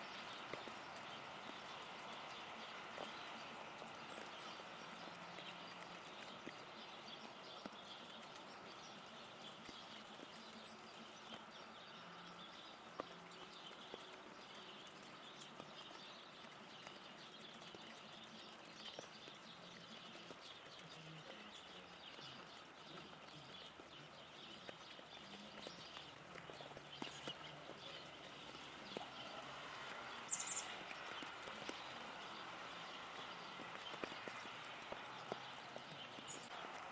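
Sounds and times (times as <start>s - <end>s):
rain dripping through foliage: 0.0s - 36.9s.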